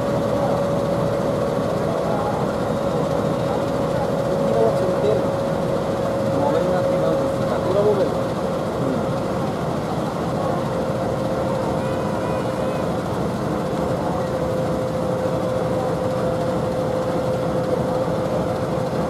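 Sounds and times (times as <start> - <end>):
faint voices: 0.0 - 18.7
train engine rumble: 0.0 - 19.0.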